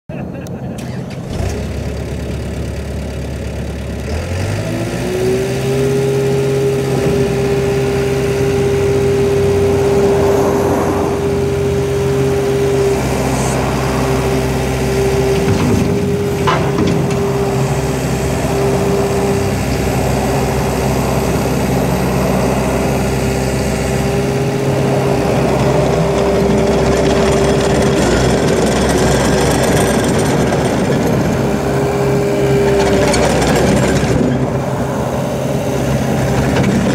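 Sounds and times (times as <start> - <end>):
diesel engine humming: 0.1 - 36.9.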